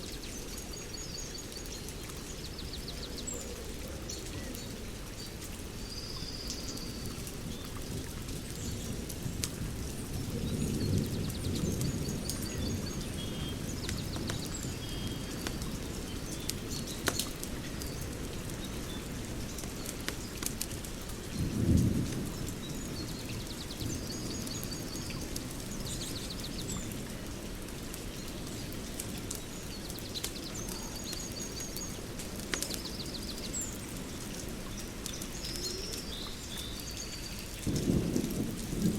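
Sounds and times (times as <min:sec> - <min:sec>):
birds singing trills: 0:00.2 - 0:07.8, 0:09.8 - 0:20.3, 0:21.4 - 0:27.1, 0:28.1 - 0:38.1
open fire crackling and popping: 0:06.6 - 0:38.9.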